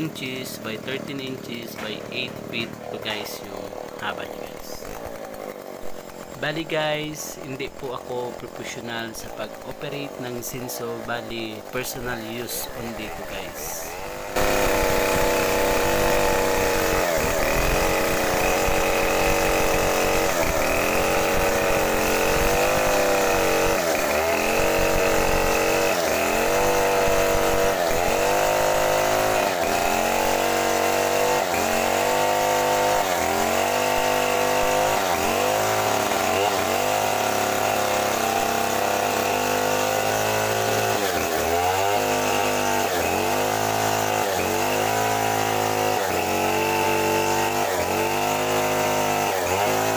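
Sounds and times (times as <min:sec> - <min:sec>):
chainsaw cutting through wood: 0:00.0 - 0:49.9.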